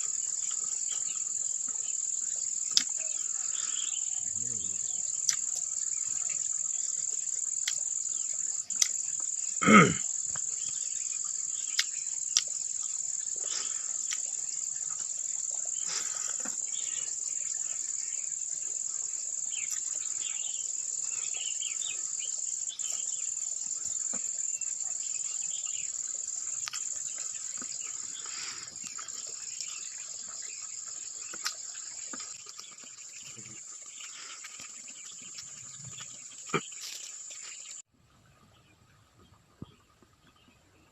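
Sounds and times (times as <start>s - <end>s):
crickets trilling: 0.0s - 37.9s.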